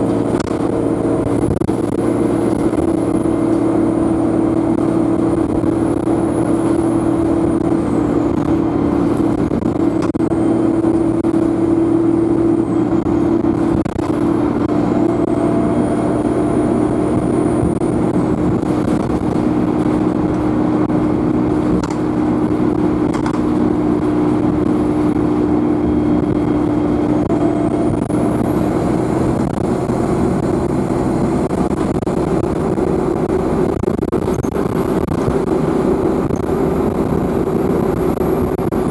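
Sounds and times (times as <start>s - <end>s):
bus engine drone: 0.0s - 38.9s
turbocharger whining: 0.0s - 38.9s.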